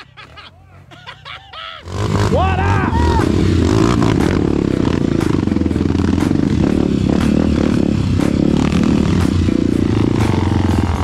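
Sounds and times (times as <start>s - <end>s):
dirt bike engine running: 1.8s - 11.0s.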